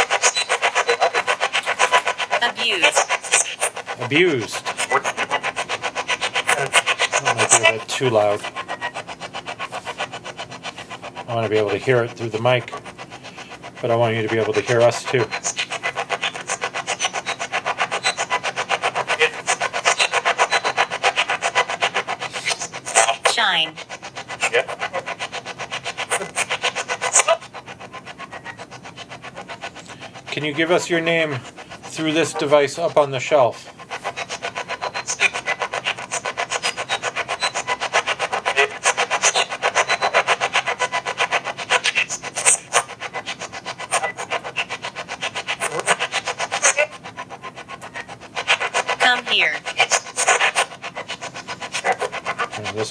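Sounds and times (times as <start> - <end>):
rapid chopped radio static: 0.0 - 52.9.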